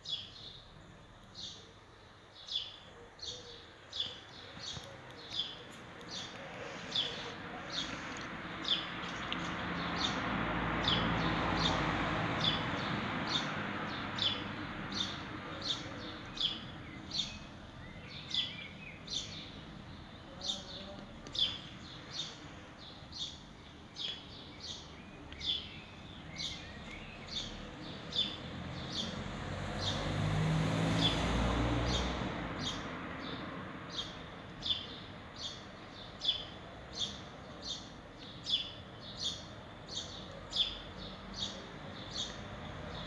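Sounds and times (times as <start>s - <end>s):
bird chirping: 0.0s - 43.0s.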